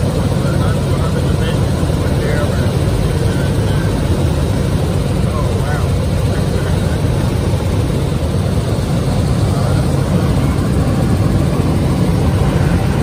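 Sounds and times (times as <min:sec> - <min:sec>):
helicopter engine and rotor rumble: 0:00.0 - 0:13.0.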